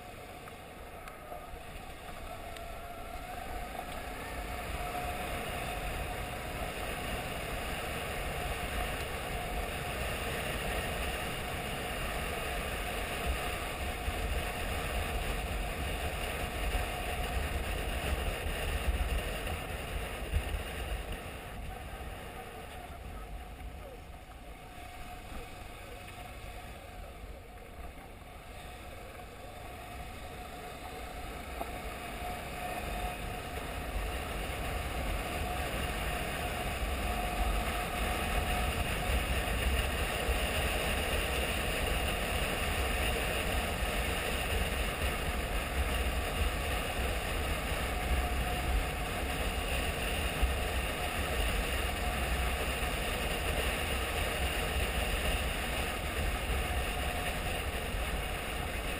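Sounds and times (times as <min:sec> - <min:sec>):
motorcycle engine running: 0:00.0 - 0:58.9
road rumble: 0:00.0 - 0:58.9
wind: 0:00.0 - 0:58.9.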